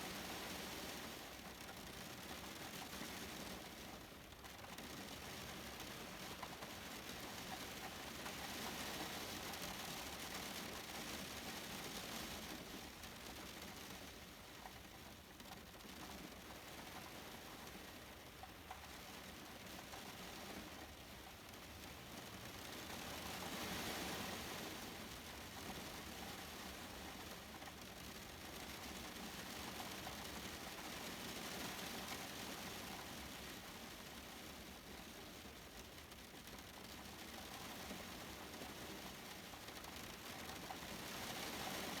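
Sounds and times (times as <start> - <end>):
rain falling: 4.3 - 42.0.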